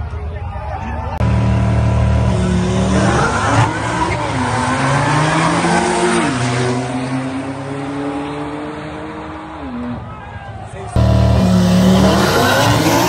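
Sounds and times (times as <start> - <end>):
sports car engine accelerating: 1.2 - 9.9, 11.0 - 13.0.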